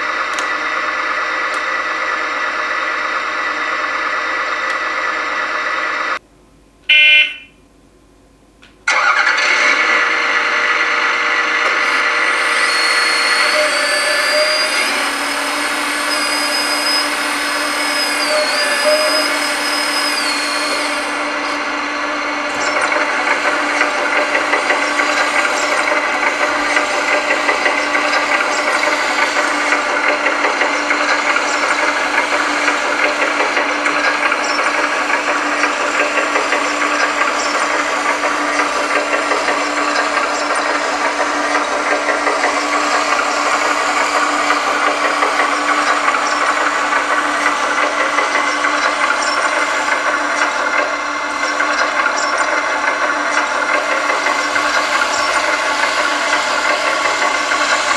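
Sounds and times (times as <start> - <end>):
toy speaker diesel engine idle: 8.8 - 57.9.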